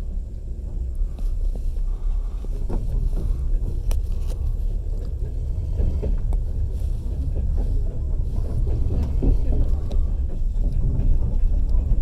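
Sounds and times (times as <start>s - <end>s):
train running gear rumbling: 0.0s - 12.0s.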